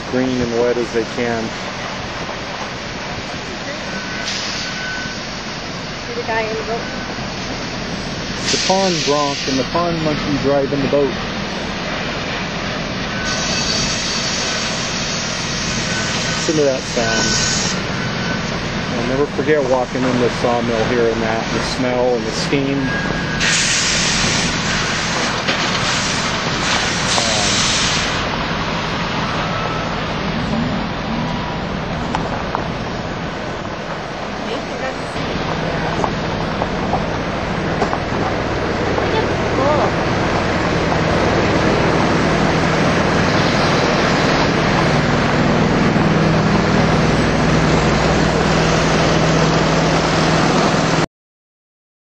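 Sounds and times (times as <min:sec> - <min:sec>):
loud steam hiss: 0:00.0 - 0:51.0
sawmill machinery din: 0:00.0 - 0:51.0.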